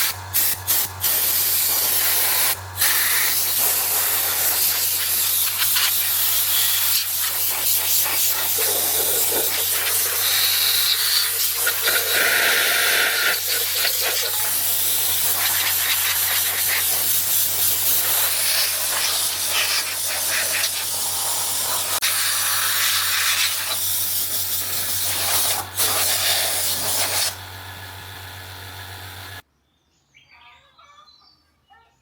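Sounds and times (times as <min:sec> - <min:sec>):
pressurized spray hiss: 0:00.0 - 0:27.4.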